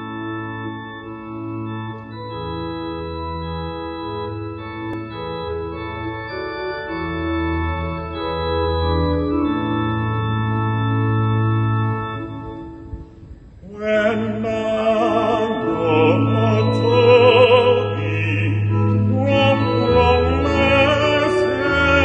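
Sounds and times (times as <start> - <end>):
organ playing hymn chords: 0.0 - 22.0.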